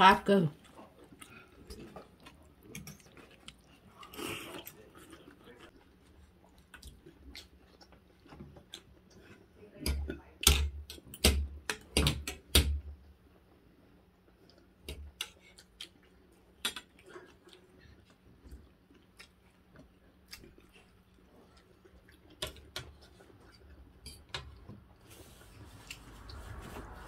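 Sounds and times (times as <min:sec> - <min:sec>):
people chewing: 0:00.5 - 0:12.2, 0:13.3 - 0:27.0.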